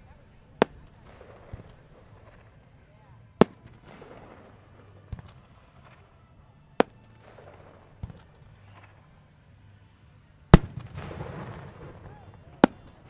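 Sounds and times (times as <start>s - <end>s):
fireworks bursting: 0.0s - 9.1s, 10.5s - 13.0s.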